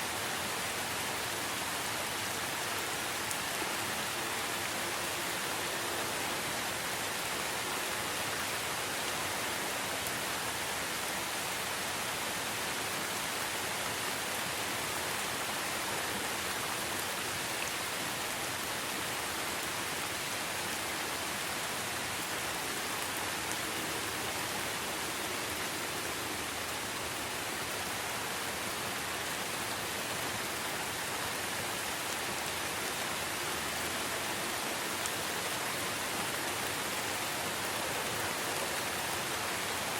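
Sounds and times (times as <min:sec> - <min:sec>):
steady rain in a forest: 0:00.0 - 0:39.9.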